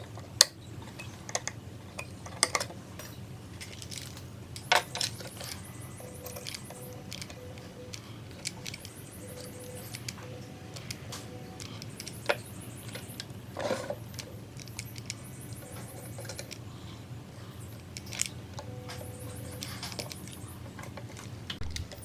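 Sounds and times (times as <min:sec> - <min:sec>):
small hard objects clicking: 0:00.0 - 0:16.8, 0:17.5 - 0:22.0
steady low hum: 0:00.0 - 0:22.0.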